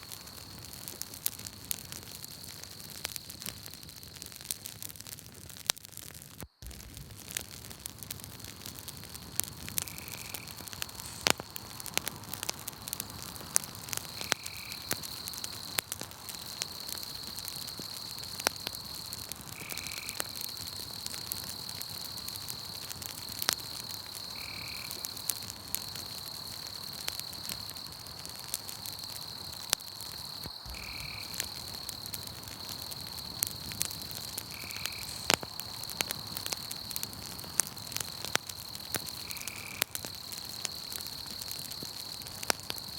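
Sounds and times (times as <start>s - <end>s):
night insects trilling: 0.0s - 4.5s, 6.3s - 42.9s
campfire crackling and popping: 0.0s - 42.9s.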